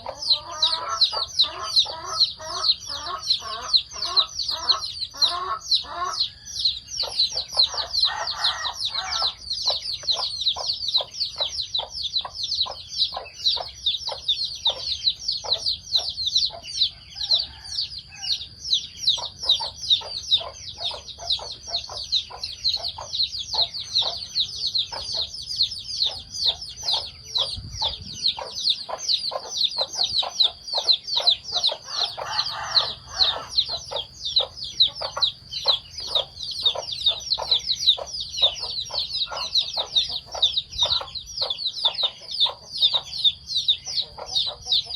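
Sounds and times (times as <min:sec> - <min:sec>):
chickens clucking: 0:00.0 - 0:44.9
fast high peeping: 0:00.0 - 0:44.9.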